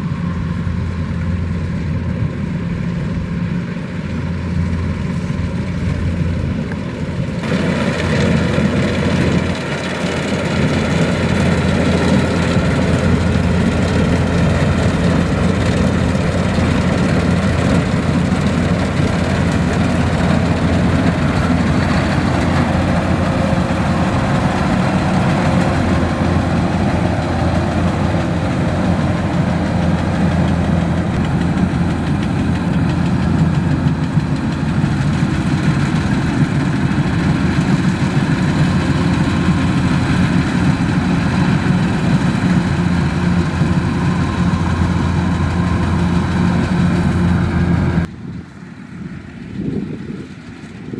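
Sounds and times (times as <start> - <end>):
combine harvester engine humming: 0.0 - 50.9.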